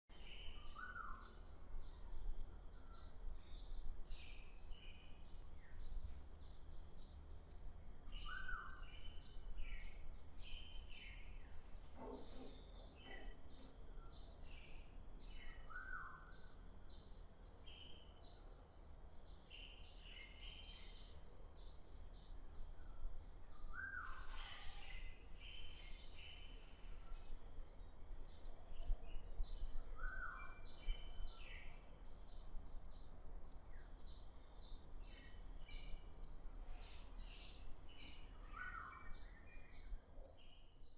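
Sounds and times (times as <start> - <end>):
birds chirping: 0.1 - 40.9.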